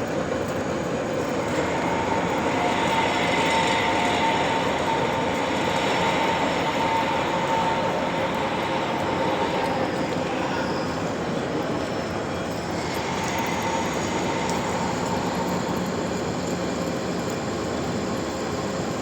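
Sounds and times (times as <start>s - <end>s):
faint machine whine: 0.0s - 19.0s
lathe running: 0.6s - 19.0s.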